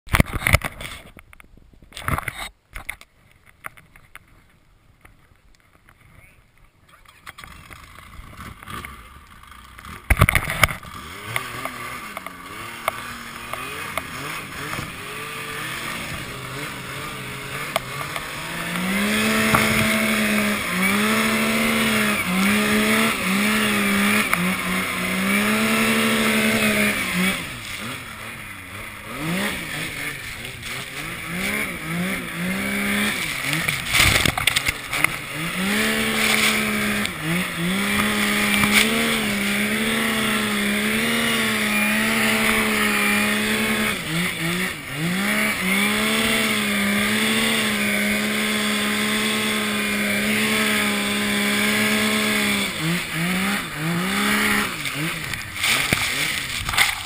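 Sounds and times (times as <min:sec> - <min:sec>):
snowmobile engine running hard: 0:07.6 - 0:57.0.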